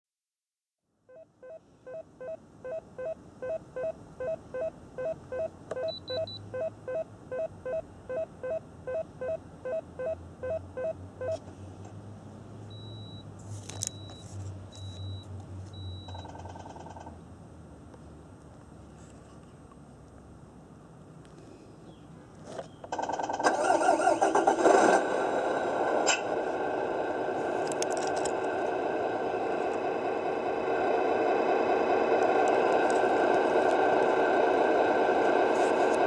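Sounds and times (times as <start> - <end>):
low simulated engine hum: 0.9 - 23.0, 24.0 - 36.0.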